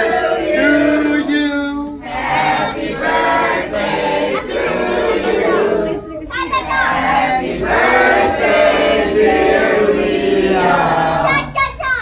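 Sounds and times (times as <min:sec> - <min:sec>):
group singing a birthday song: 0:00.0 - 0:11.6.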